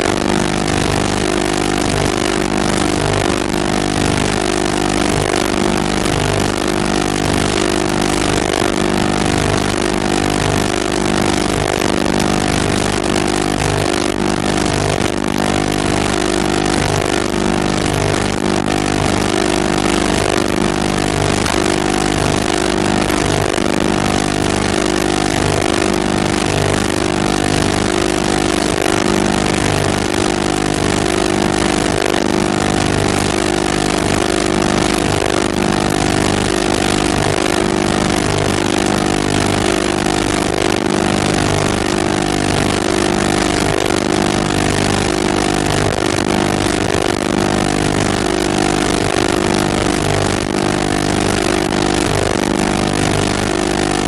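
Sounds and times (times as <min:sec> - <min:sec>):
machine drone hum: 0:00.0 - 0:54.0.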